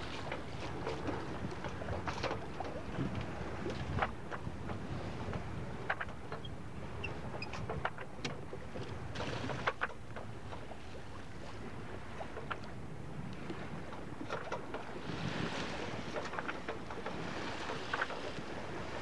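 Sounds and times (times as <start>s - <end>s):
water and wind rushing: 0.0s - 19.0s.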